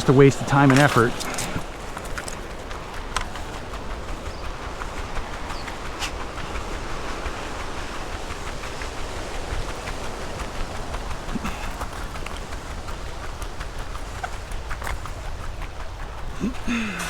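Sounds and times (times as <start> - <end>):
cart wheels rolling over ground: 0.0 - 17.0.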